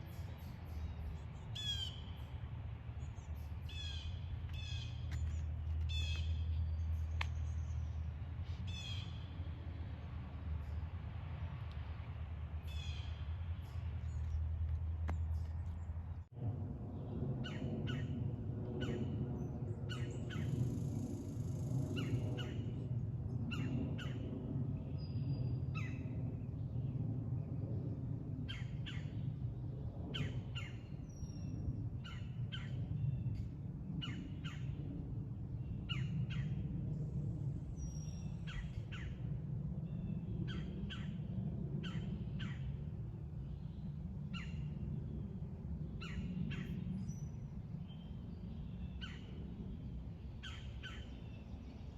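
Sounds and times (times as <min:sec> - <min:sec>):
steady low rumble: 0:00.0 - 0:51.9.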